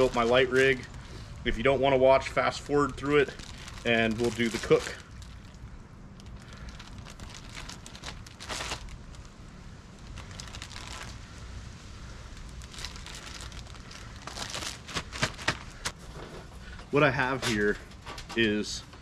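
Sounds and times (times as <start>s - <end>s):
plastic bag crinkling: 0.0s - 11.4s, 12.0s - 16.0s
steady low rumble: 0.0s - 19.0s.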